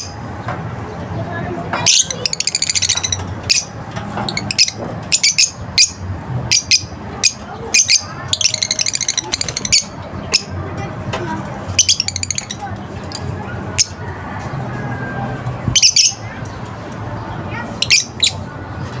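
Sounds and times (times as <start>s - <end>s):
lovebirds chirping: 0.0s - 10.6s, 11.3s - 14.0s, 15.6s - 18.5s.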